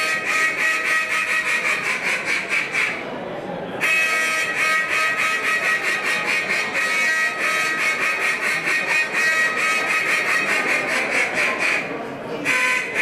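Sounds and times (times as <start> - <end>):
duck call quacking: 0.0 - 3.0, 3.8 - 13.0.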